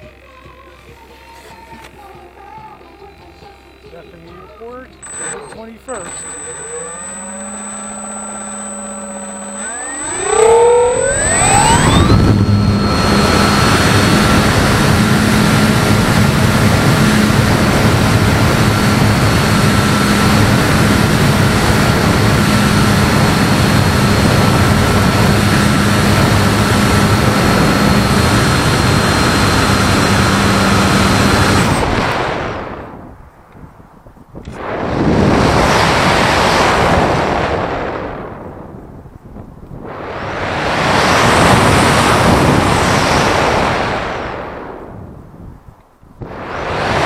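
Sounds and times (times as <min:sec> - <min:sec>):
electric motor and propeller whine: 0:00.0 - 0:33.1, 0:34.4 - 0:38.6, 0:39.5 - 0:47.0
wind rush on microphone: 0:07.1 - 0:47.0.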